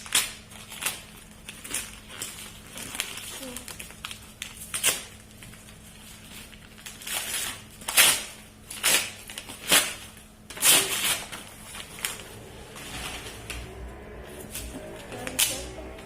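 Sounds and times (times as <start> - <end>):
wrapping paper tearing and crumpling: 0.0 - 16.0.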